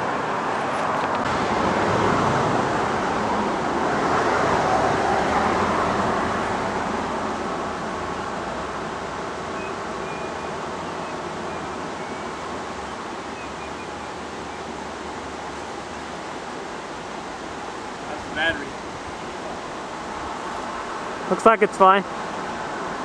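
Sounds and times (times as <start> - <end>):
steady traffic rushing: 0.0 - 23.0
vehicle passing: 0.0 - 23.0.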